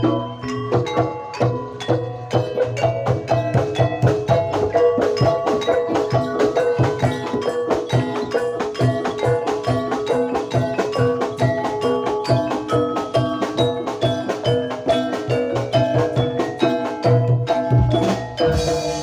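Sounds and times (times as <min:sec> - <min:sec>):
low drum beats: 0:00.0 - 0:19.0
metal percussion strokes: 0:00.0 - 0:19.0.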